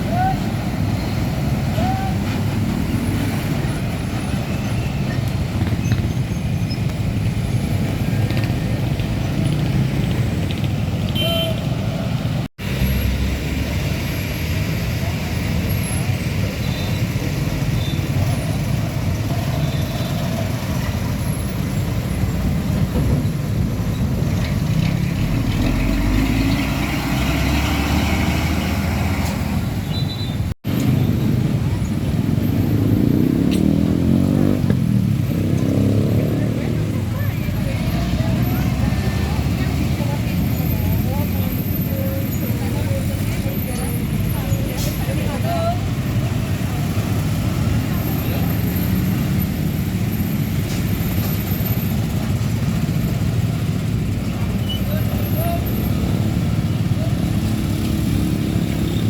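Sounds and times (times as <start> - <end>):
diesel trucks driving past: 0.0 - 59.0.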